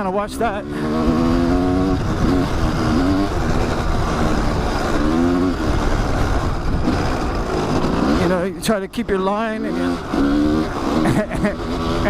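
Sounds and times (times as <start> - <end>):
constant rushing noise: 0.0 - 12.0
dirt bike engine revving: 0.0 - 12.0.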